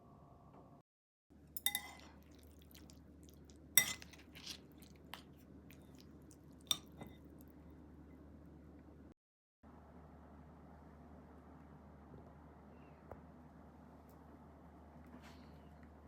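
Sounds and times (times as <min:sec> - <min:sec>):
faint steady hum: 0:01.4 - 0:16.0.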